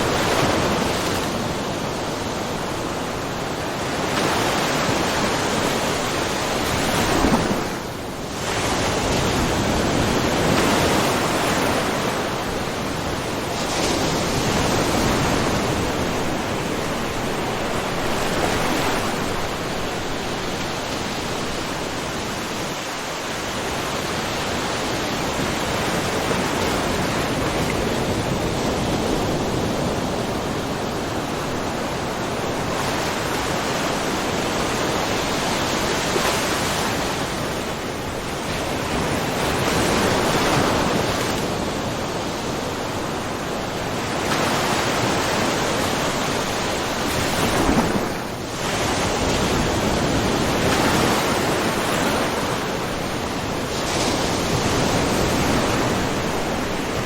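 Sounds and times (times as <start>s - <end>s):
small waves splashing: 0.0s - 57.0s.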